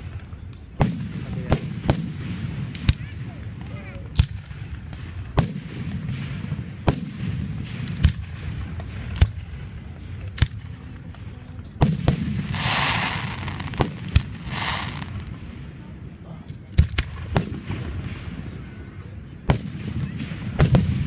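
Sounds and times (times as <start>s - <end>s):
fireworks bursting: 0.0s - 15.9s, 16.5s - 21.0s.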